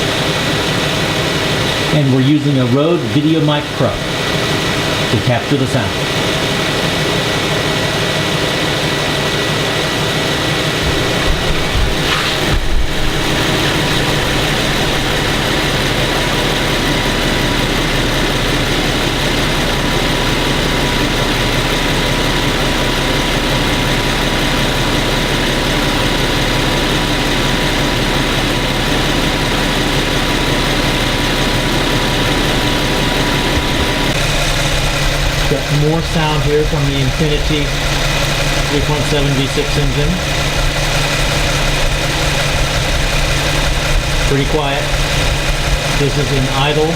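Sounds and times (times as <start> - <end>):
car engine idling: 0.0 - 46.9
short irregular engine noise: 0.0 - 46.9.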